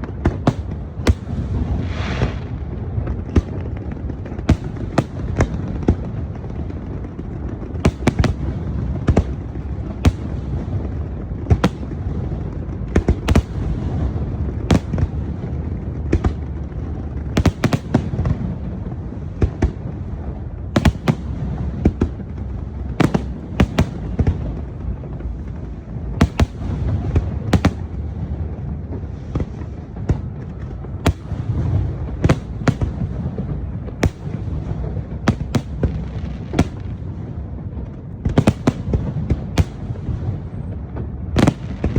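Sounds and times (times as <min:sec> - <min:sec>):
fireworks booming: 0:00.0 - 0:41.9
fireworks cracks and bangs: 0:00.0 - 0:41.9.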